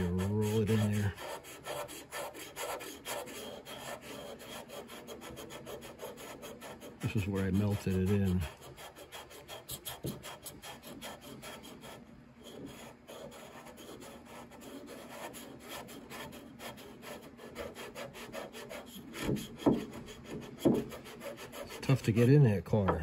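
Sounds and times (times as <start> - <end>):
sandpaper rubbing on wood: 0.0 - 22.4.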